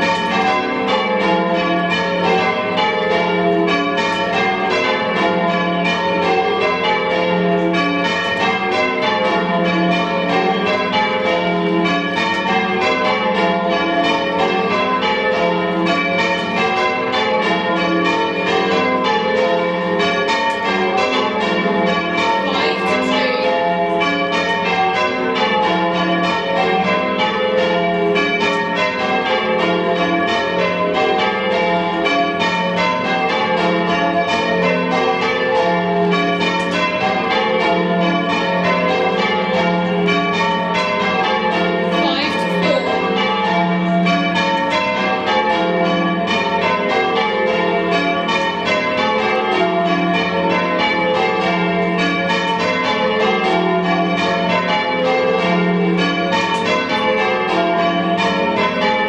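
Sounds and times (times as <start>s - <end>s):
church bells change ringing: 0.0s - 59.0s.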